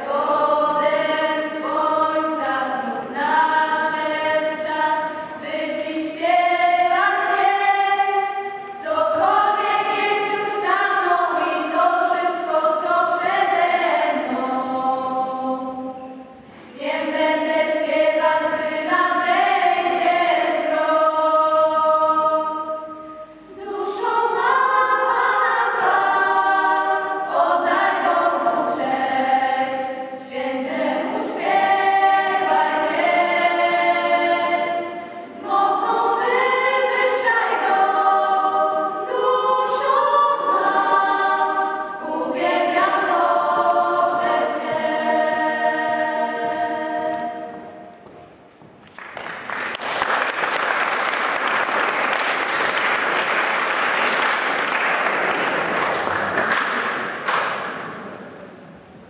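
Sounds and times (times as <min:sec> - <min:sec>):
mixed choir singing: 0:00.0 - 0:48.1.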